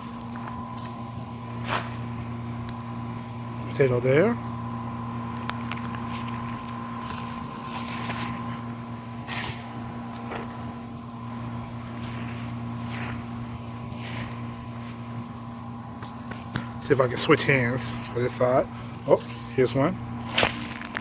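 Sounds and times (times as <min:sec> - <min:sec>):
motor hum: 0:00.0 - 0:21.0.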